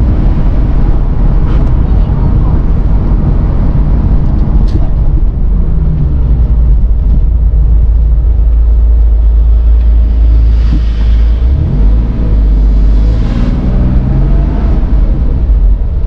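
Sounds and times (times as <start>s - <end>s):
car engine rumbling: 0.0s - 16.0s
road noise: 0.0s - 16.0s.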